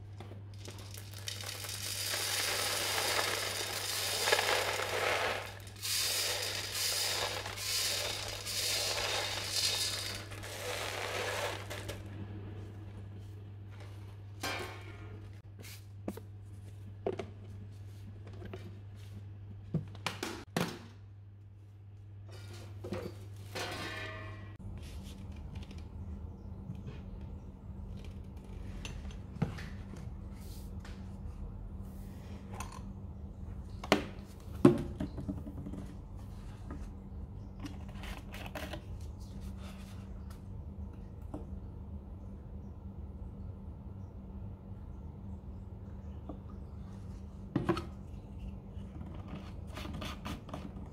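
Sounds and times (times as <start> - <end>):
low steady hum: 0.0 - 20.2, 20.8 - 50.9.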